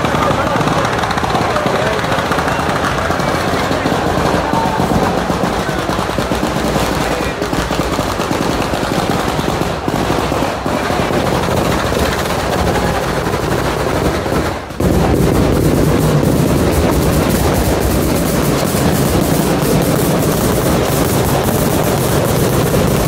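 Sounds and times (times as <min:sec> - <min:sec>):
firecrackers exploding rapidly: 0:00.0 - 0:23.0.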